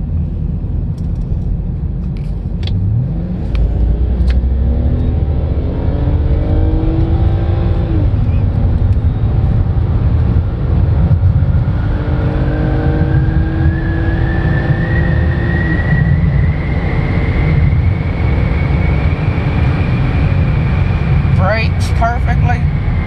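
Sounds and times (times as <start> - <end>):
road and engine rumble in car: 0.0 - 23.0.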